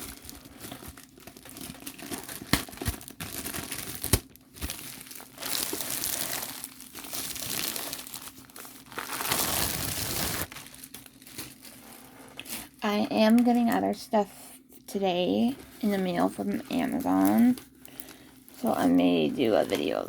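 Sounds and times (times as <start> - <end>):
packaging crinkling and rustling: 0.0 - 13.8, 15.6 - 20.0.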